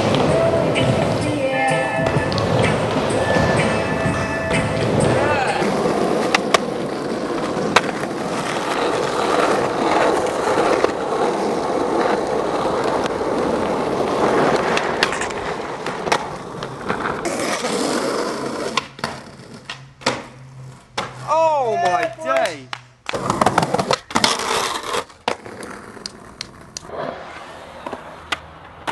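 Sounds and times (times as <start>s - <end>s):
skateboard clacking on ground: 0.0s - 17.9s, 18.5s - 28.9s
skateboard wheels rolling on concrete: 0.0s - 28.9s.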